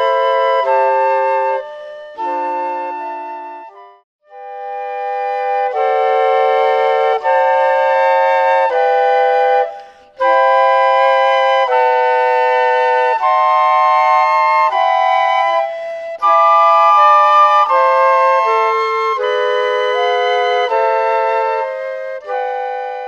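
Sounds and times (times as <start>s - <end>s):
flute quartet playing chords: 0.0s - 23.0s.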